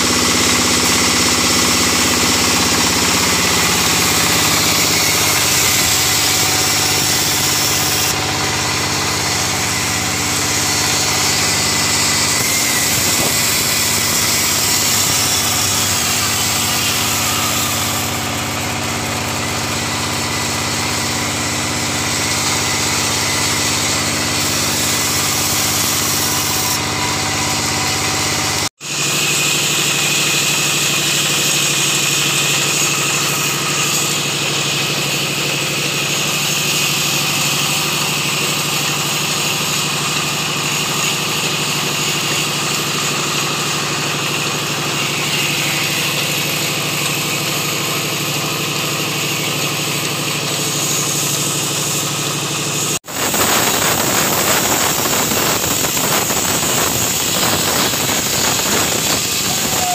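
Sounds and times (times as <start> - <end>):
band saw cutting timber: 0.0 - 59.9.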